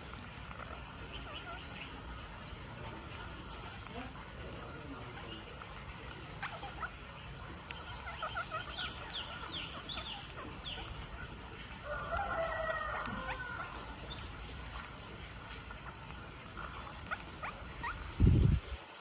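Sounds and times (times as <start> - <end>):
parakeets screeching: 0.4 - 18.3.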